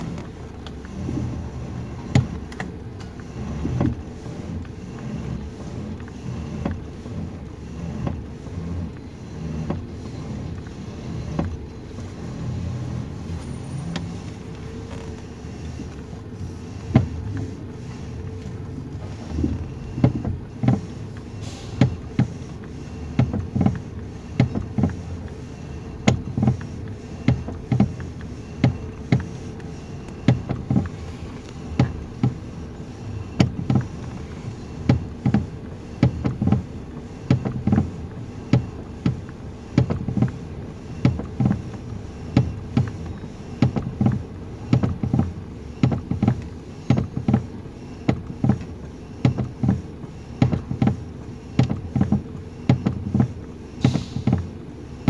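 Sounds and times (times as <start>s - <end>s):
car engine idling: 0.0s - 46.3s.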